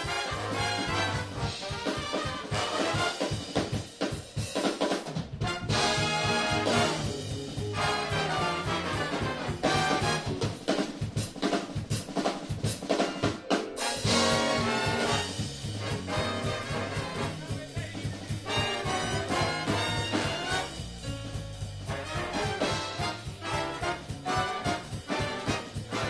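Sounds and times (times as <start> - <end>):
trumpets and trombones: 0.0 - 3.8, 5.3 - 10.6, 12.9 - 26.0
drum kit: 0.0 - 26.0.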